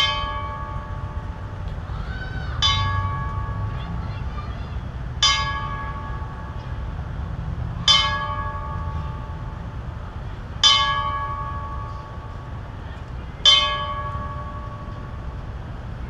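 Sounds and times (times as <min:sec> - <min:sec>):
bell tolling slowly: 0:00.0 - 0:16.0
steady low rumble: 0:00.0 - 0:16.0.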